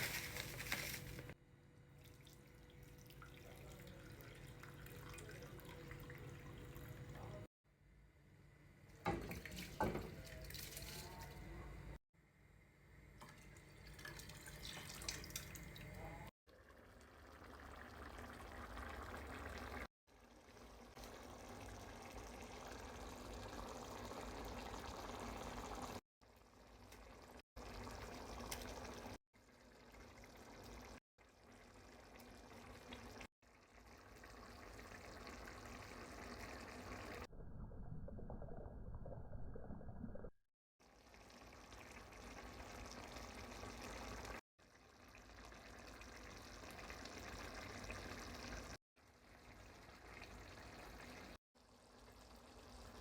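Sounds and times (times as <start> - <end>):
faint water running and pouring: 0.0 - 7.5, 8.9 - 12.0, 13.1 - 53.0.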